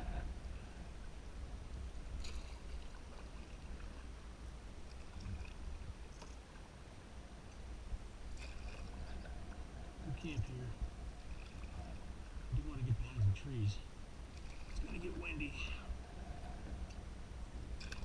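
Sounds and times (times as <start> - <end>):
canoe paddling water: 0.0 - 18.0.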